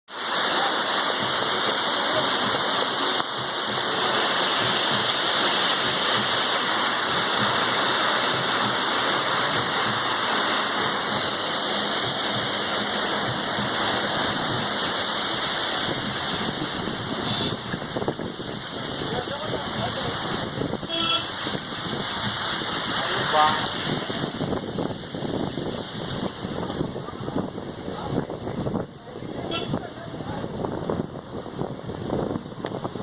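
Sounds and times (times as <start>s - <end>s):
waterfall rushing: 0.1s - 33.0s.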